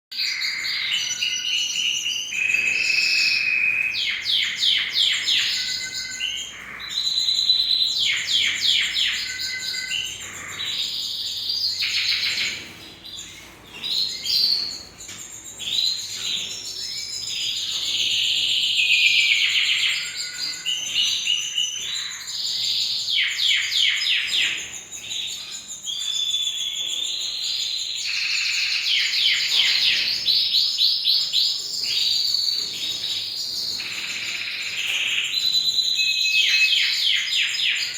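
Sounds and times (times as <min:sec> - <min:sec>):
canary singing trills: 0:00.1 - 0:37.9.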